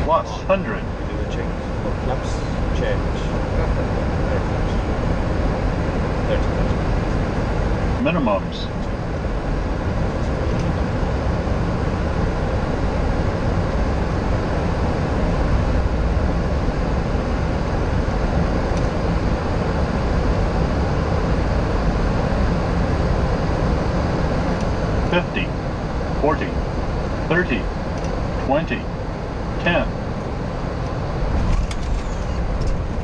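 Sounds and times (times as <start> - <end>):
low rumble: 0.0 - 33.0
rushing airflow and engine noise: 0.0 - 33.0.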